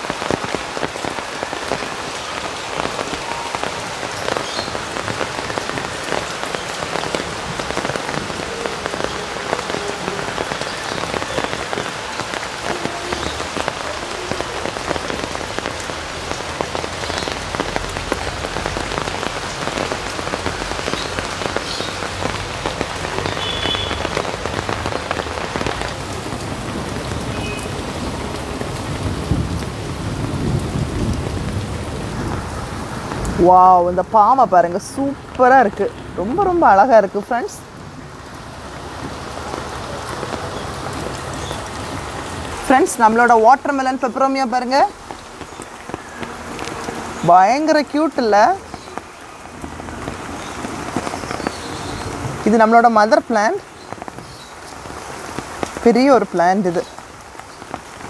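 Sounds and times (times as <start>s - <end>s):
heavy rain on concrete and leaves: 0.0s - 58.0s.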